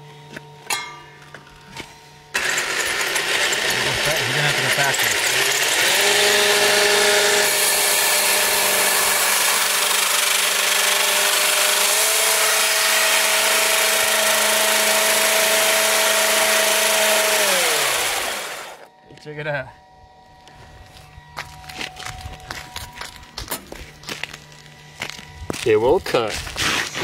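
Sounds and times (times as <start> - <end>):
electric motor whining: 1.7 - 27.0.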